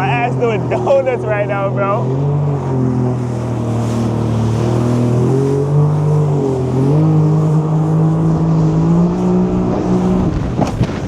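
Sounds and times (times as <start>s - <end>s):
jet ski engine at high revs: 0.0s - 11.0s.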